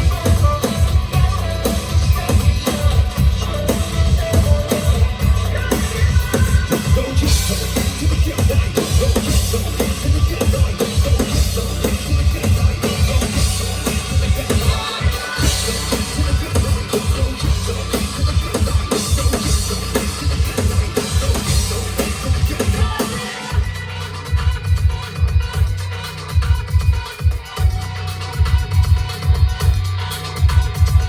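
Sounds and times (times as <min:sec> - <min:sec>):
cymbals: 0:00.0 - 0:31.0
distorted guitar: 0:00.0 - 0:31.0
fast drumming on bass drum and snare: 0:00.0 - 0:31.0
live rock band playing: 0:00.0 - 0:31.0.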